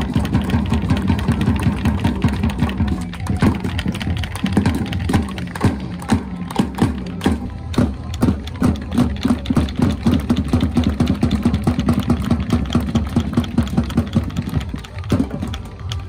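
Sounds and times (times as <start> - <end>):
crowd clapping fast: 0.0 - 16.0.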